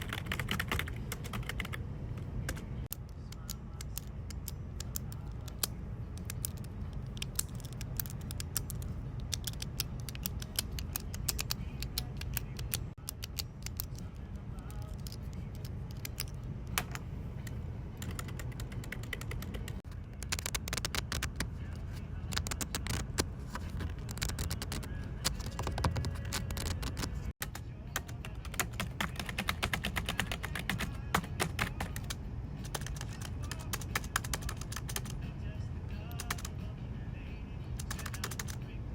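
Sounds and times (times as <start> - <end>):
computer keyboard typing: 0.0 - 1.8, 2.5 - 21.5, 22.3 - 35.2, 36.1 - 36.5, 37.8 - 38.6
steady low hum: 0.0 - 38.9.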